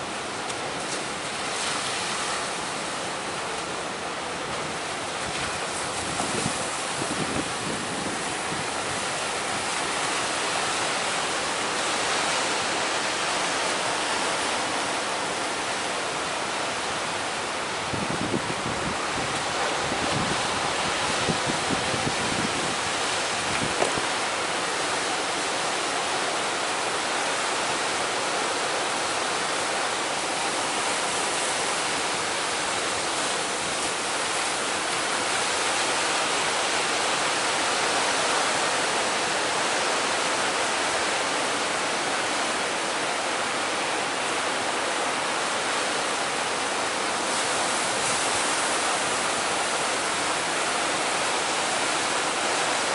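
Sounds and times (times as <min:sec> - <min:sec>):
strong wind: 0:00.0 - 0:52.9.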